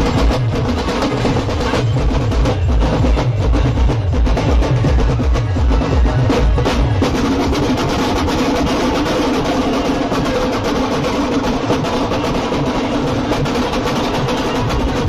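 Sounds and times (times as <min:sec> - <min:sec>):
group of drums beating: 0:00.0 - 0:15.0.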